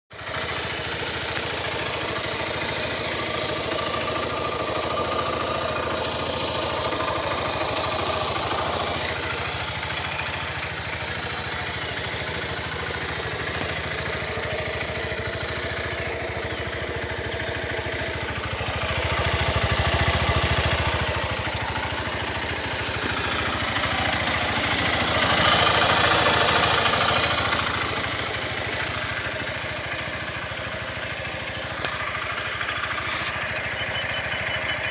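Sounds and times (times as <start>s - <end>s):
motorcycle engine revving: 0.1s - 34.9s
noise on acceleration: 0.1s - 34.9s.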